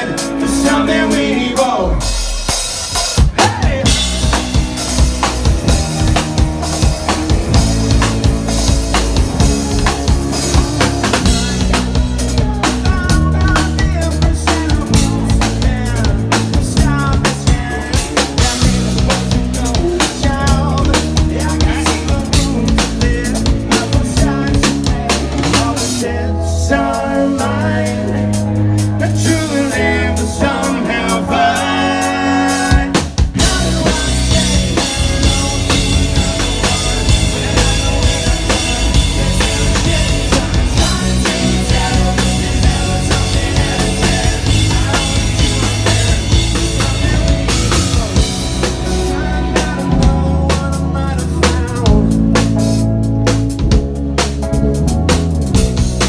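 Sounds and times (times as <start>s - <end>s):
drum kit beat: 0.0s - 26.1s, 26.9s - 56.0s
rock band playing: 0.0s - 56.0s.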